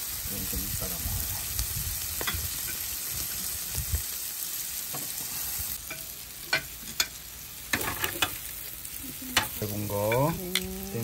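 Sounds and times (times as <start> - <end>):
meat sizzling on grill: 0.0 - 11.0.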